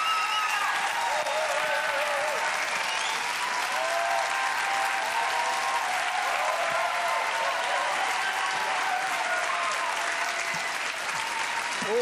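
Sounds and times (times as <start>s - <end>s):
audience applauding: 0.0s - 12.0s
people cheering: 0.0s - 12.0s.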